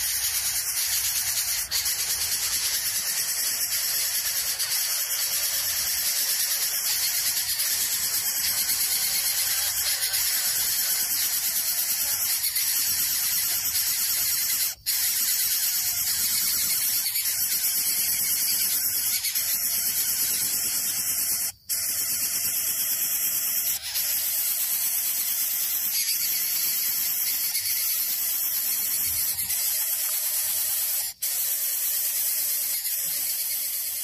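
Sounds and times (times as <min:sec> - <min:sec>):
nestling bird squealing: 0:00.0 - 0:34.0.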